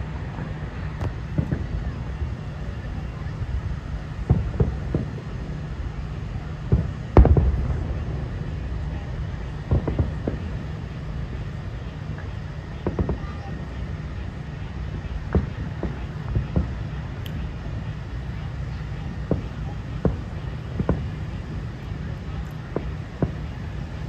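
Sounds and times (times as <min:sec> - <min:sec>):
distant fireworks booming: 0:00.0 - 0:24.0
steady low rumble: 0:00.0 - 0:24.0.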